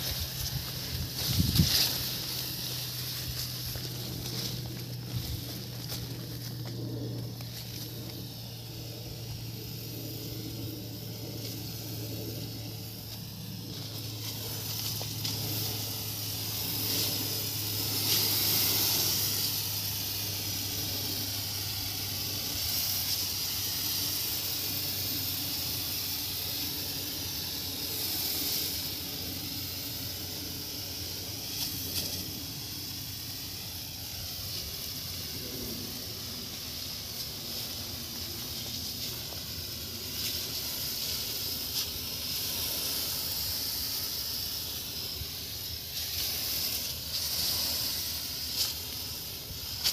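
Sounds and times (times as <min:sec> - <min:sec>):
loud hiss of spray: 0:00.0 - 0:49.9
low engine hum: 0:00.0 - 0:49.9.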